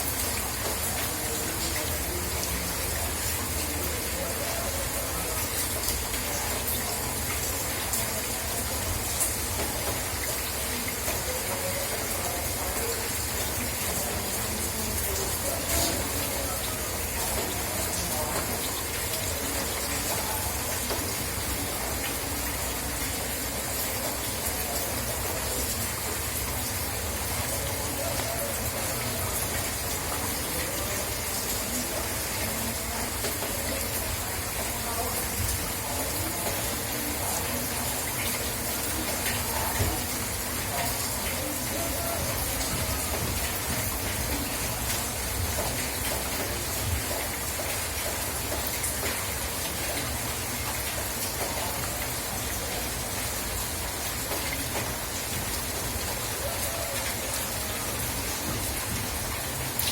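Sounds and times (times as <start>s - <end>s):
steady rain falling: 0.0s - 59.9s
water gushing and running: 0.0s - 59.9s.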